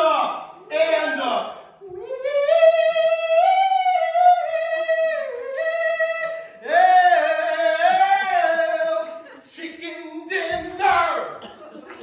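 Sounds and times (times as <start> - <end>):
man singing high held notes: 0.0 - 11.4.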